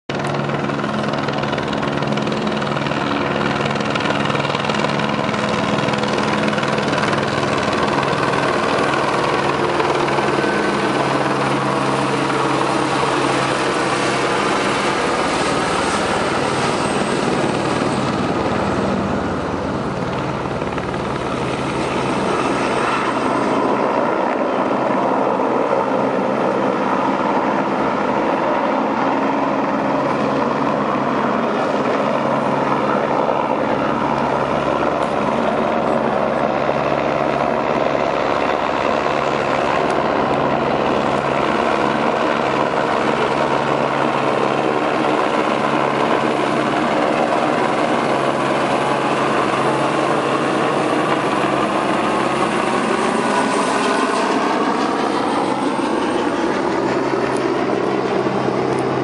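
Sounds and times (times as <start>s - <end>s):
helicopter flying overhead: 0.1s - 59.0s.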